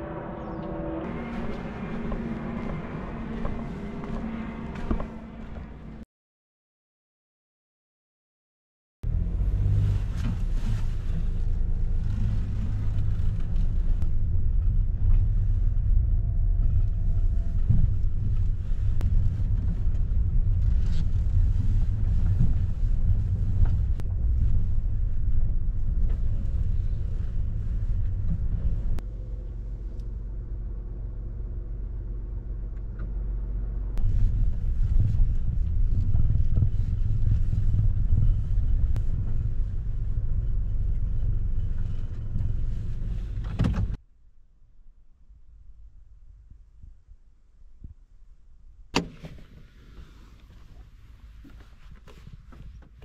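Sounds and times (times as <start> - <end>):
car engine and road noise: 0.0 - 6.0, 9.0 - 44.1, 45.2 - 53.0.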